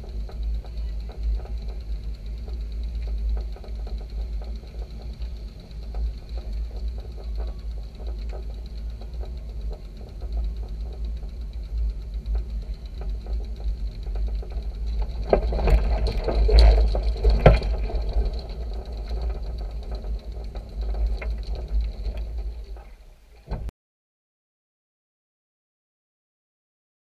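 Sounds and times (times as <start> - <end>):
low rolling rumble: 0.0 - 23.7
rattles and clattering: 0.0 - 23.7.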